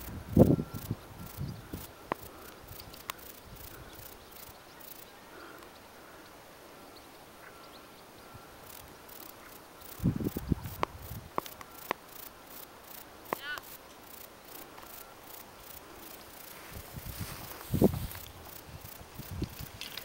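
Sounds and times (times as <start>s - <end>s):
outdoor background hiss: 0.0s - 20.0s
faint ticks: 0.4s - 6.4s, 8.6s - 16.6s, 17.2s - 20.0s.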